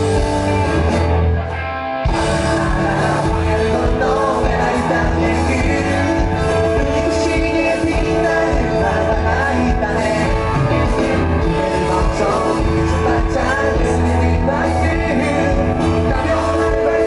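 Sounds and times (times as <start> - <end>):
rock band playing: 0.0 - 17.0
lead vocal singing: 2.1 - 17.0.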